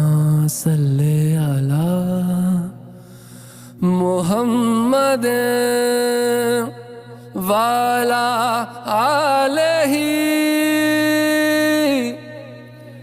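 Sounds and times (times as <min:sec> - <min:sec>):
person chanting: 0:00.0 - 0:03.0, 0:03.7 - 0:13.0.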